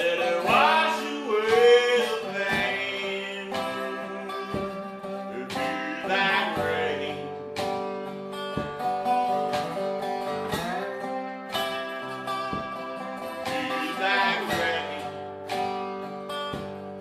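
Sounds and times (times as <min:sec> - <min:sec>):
acoustic guitar strumming blues: 0:00.0 - 0:17.0.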